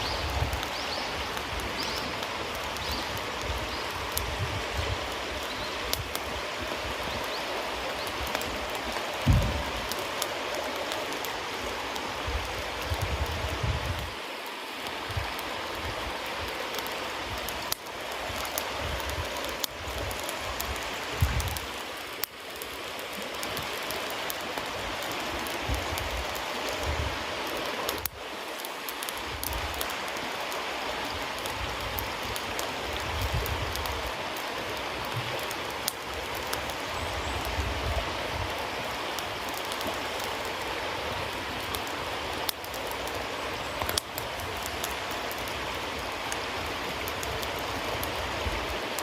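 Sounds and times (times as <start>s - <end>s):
campfire hissing: 0.0s - 49.0s
fire crackling and popping: 0.0s - 49.0s.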